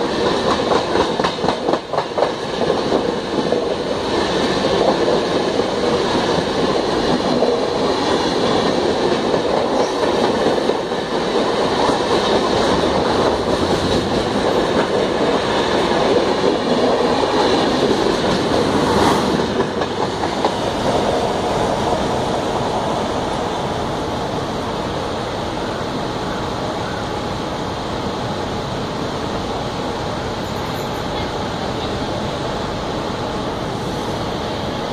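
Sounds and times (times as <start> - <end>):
train coaches rushing past: 0.0 - 34.9.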